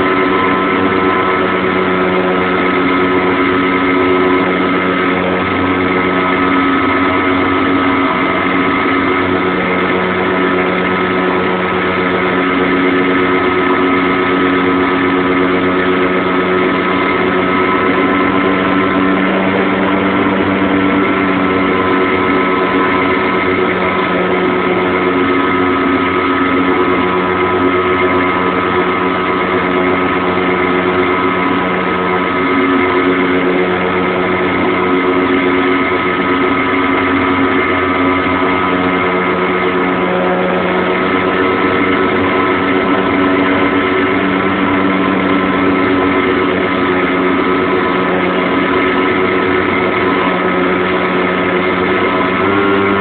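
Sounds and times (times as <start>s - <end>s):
model airplane engine running: 0.0s - 53.0s.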